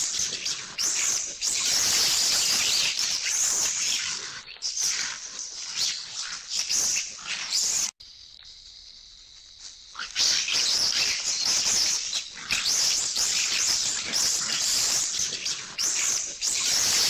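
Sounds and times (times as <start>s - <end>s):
monkeys screeching and chattering: 0.0s - 7.9s, 10.0s - 17.0s.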